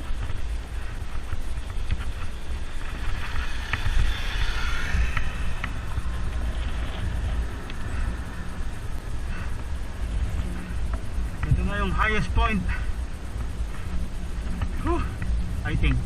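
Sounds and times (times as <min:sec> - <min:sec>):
bike clicking and rattling: 0:00.0 - 0:16.0
wind buffeting microphone: 0:00.0 - 0:16.0.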